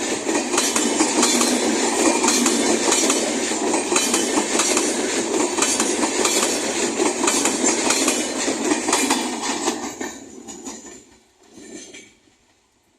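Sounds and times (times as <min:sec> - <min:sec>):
train wheels clacking over rail joints: 0:00.0 - 0:12.6
train rolling noise: 0:00.0 - 0:12.9.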